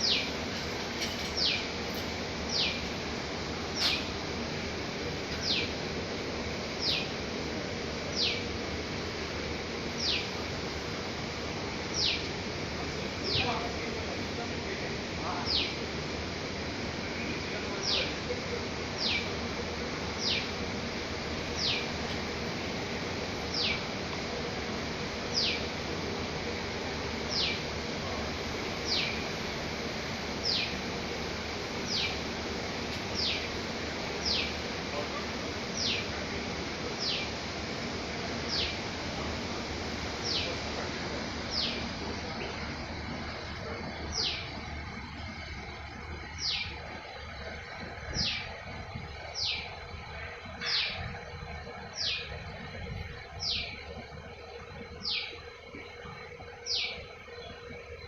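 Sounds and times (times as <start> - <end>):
steady outdoor background hiss: 0.0 - 58.0.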